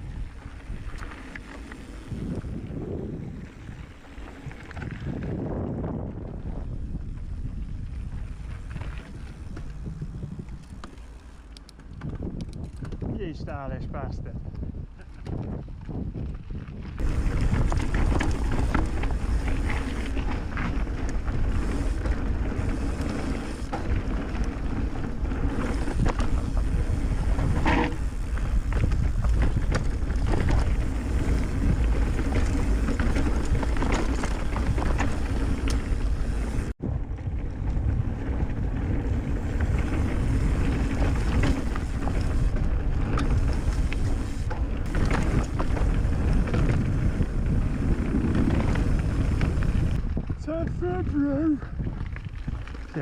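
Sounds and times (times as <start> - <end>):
bike tyres rumbling on dirt: 0.0 - 53.0
wind buffeting microphone: 0.0 - 53.0.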